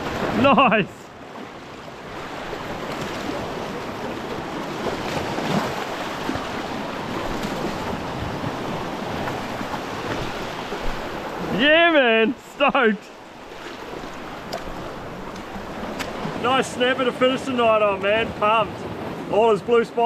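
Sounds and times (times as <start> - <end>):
waves breaking on rocky shore: 0.0 - 20.0.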